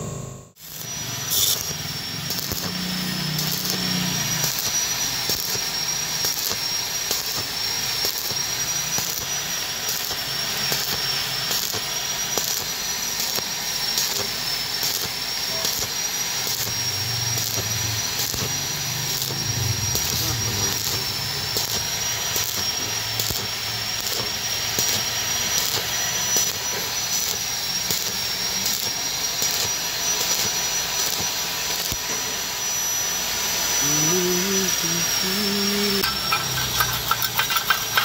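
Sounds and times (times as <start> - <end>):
thin high whine: 0.0 - 38.0
welding arc crackling hiss: 0.1 - 38.0.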